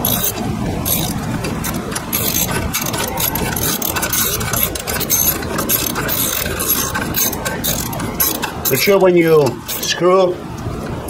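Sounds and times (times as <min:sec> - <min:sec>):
socket ratchet clicking: 0:00.0 - 0:09.9.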